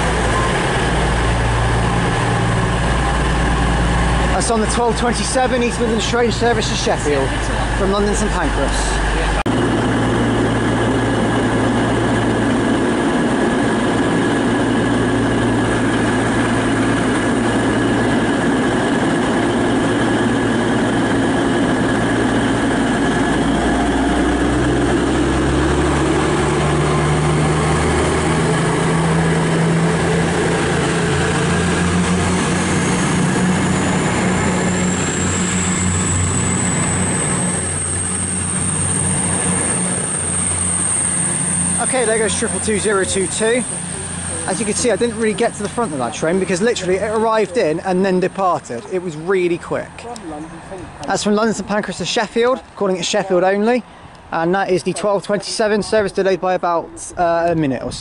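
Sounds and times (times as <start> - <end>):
train diesel engines running: 0.0 - 57.9
high whine: 0.0 - 58.0.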